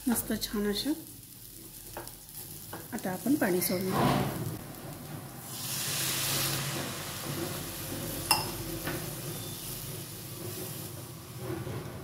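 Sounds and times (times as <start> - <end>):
water sizzling in hot wok: 0.0 - 12.0.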